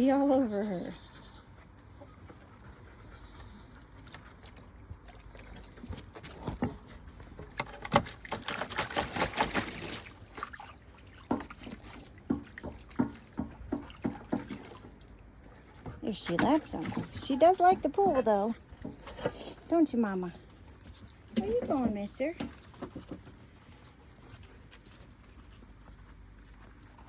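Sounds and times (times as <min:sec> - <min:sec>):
dog lapping water: 0:02.1 - 0:27.0.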